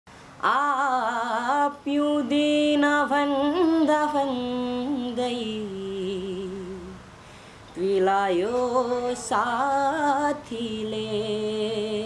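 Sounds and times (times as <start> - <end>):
boy singing unaccompanied: 0.4 - 7.0, 7.8 - 12.0.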